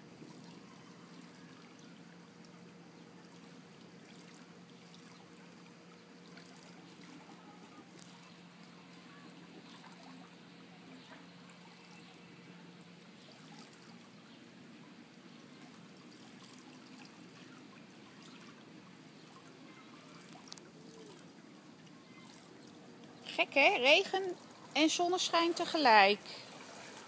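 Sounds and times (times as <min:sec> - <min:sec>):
light rain on water: 0:00.0 - 0:27.0.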